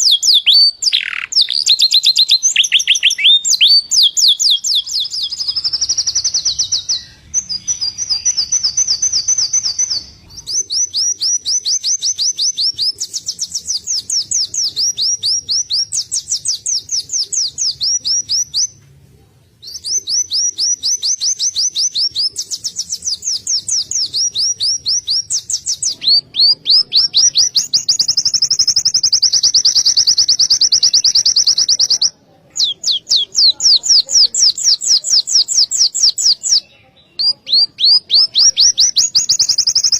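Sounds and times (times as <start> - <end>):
songbird singing fast trills: 0.0 - 18.8, 19.6 - 39.9.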